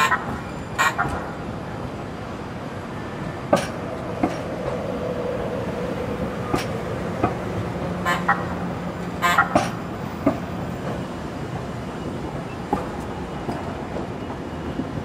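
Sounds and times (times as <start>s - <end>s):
train running hum: 0.0s - 15.0s
wheels clacking over rail joints: 0.0s - 15.0s.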